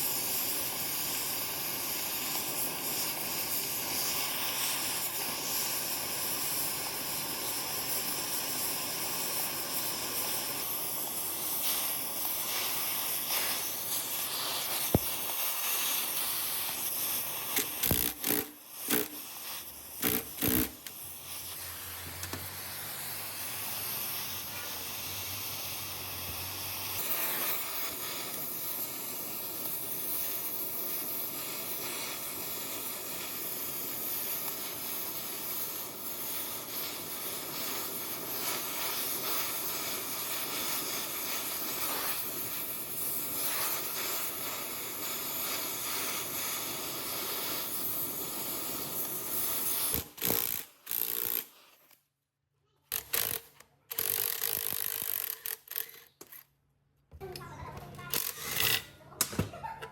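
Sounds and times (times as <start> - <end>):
steady hiss: 0.0 - 51.4.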